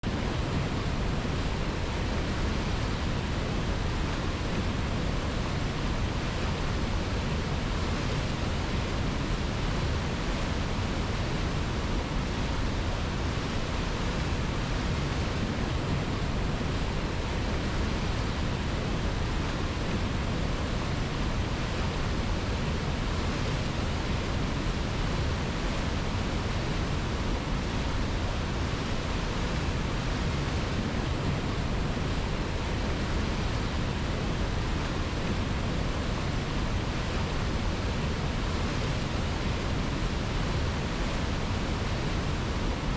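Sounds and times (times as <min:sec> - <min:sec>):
river water flowing: 0:00.1 - 0:42.9.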